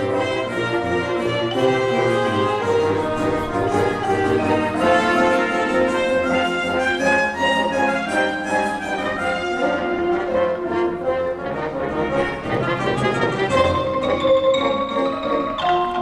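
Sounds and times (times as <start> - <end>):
orchestral brass and strings: 0.0 - 16.0.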